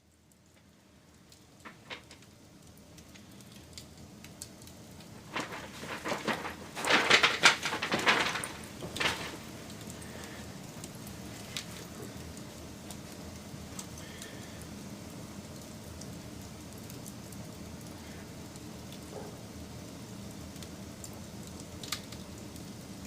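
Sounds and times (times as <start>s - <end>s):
steady hiss: 0.0s - 23.0s
wood fire crackling and popping: 0.0s - 23.0s.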